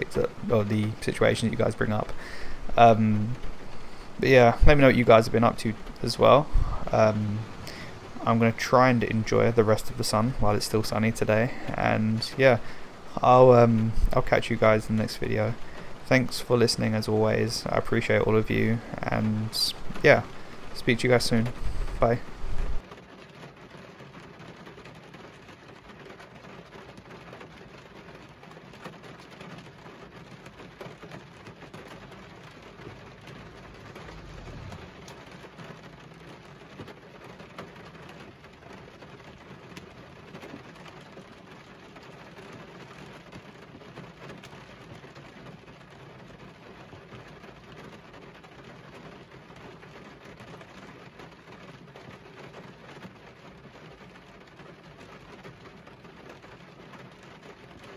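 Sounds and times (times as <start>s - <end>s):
heavy rain drumming on a car: 0.0s - 57.9s.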